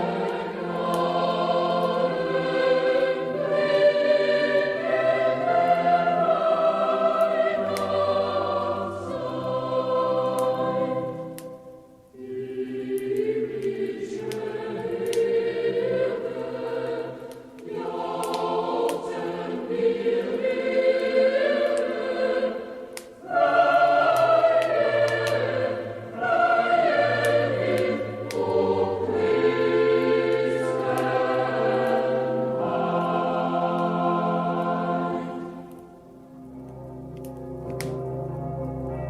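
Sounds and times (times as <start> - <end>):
choir singing in sustained chords: 0.0 - 39.0.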